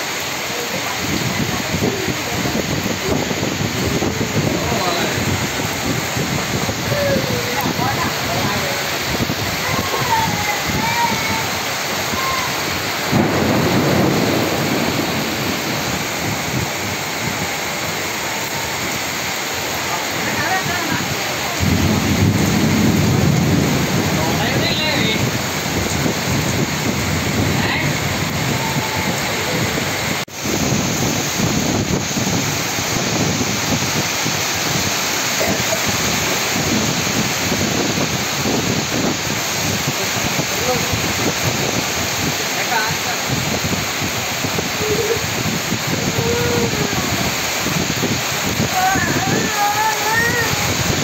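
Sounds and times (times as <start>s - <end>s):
heavy rain and hail: 0.0s - 51.0s
strong wind: 0.0s - 51.0s.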